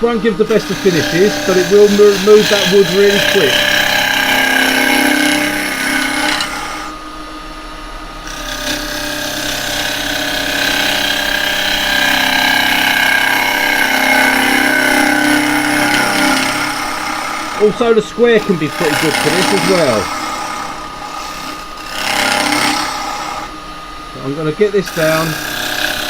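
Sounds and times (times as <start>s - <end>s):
cutter hissing through wood: 0.0s - 26.0s
lathe humming: 0.0s - 26.0s.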